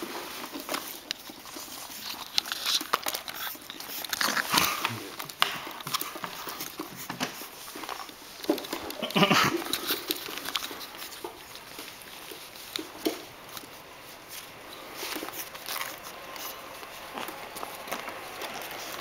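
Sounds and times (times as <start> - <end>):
puppies scuffling: 0.0 - 19.0
puppy claws pattering on wood floor: 0.0 - 19.0.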